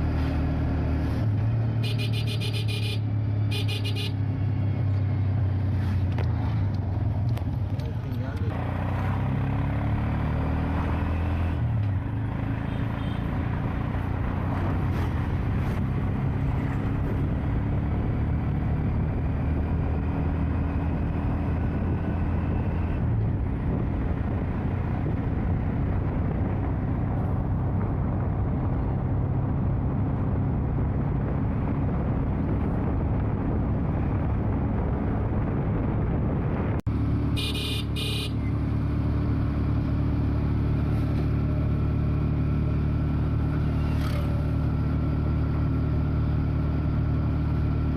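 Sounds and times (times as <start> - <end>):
tyre and road noise: 0.0 - 47.9.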